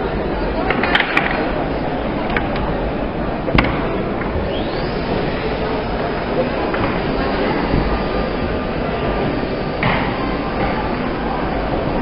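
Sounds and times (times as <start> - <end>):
crowd hubbub: 0.0 - 12.0.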